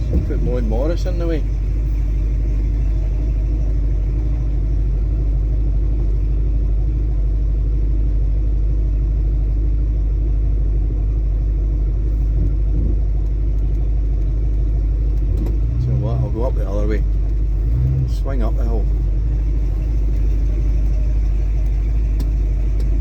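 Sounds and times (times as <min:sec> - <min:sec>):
car engine rumble from inside: 0:00.0 - 0:23.0.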